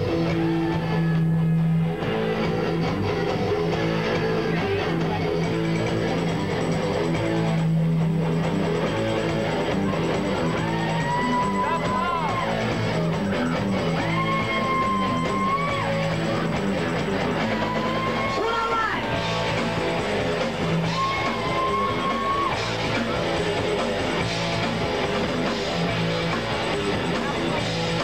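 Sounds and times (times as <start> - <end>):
electric guitar: 0.0 - 28.0
rock band playing live: 0.0 - 28.0.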